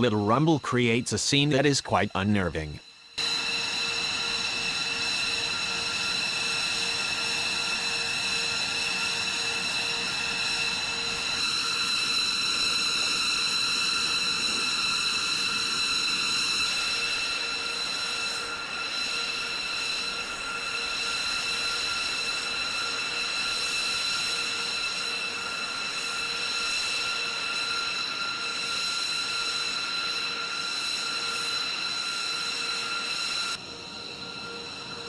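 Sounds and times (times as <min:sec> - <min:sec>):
jet engine whine: 0:00.0 - 0:35.0.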